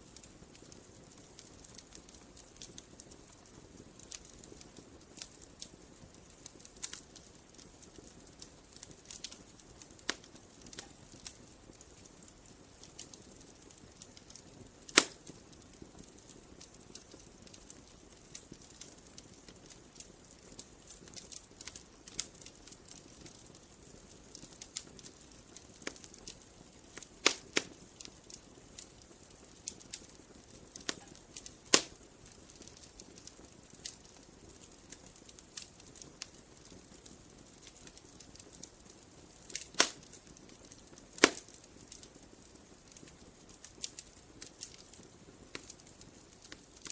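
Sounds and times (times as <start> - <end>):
sharp pops of fire: 0.0 - 46.9
wood fire crackling: 0.0 - 46.9.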